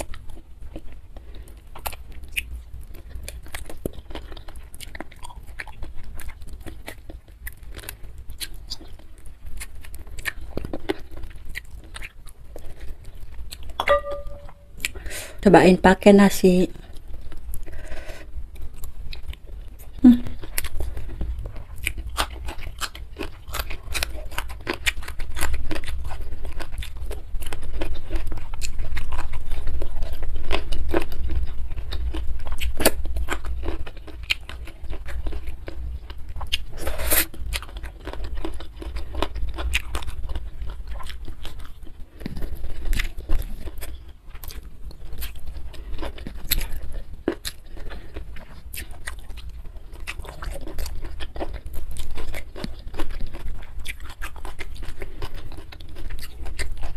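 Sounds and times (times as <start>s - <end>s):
chewing with wet crunches: 0.0s - 15.1s, 16.8s - 56.9s.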